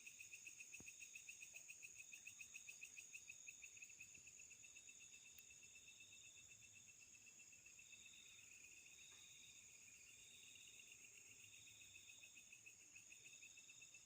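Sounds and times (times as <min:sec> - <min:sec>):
rapid pulsing insect trill: 0:00.0 - 0:14.0.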